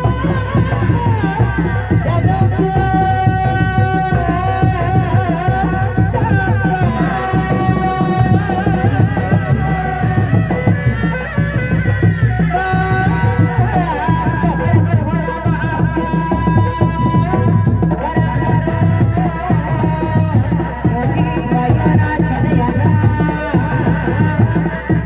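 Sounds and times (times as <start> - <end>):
continuous drumming: 0.0 - 25.0
rattling percussion: 0.0 - 25.0.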